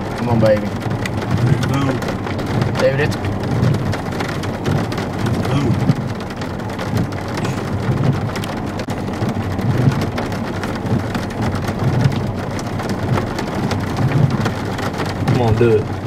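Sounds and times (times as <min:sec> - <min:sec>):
heavy rain falling: 0:00.0 - 0:16.0
low rumble: 0:00.0 - 0:16.0.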